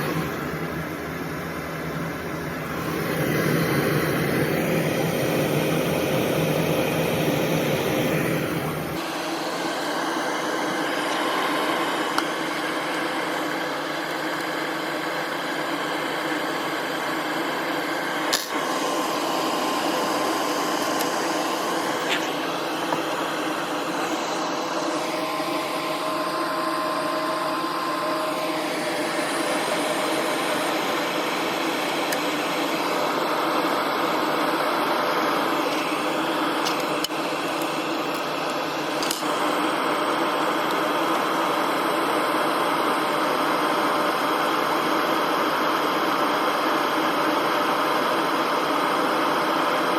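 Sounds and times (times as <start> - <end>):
faint whine tones: 0.0 - 41.2
machine fan whir: 0.0 - 49.9.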